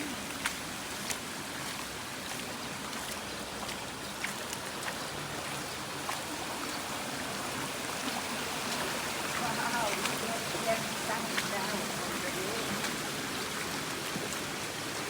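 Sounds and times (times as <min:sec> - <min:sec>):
floodwater running: 0:00.0 - 0:15.0.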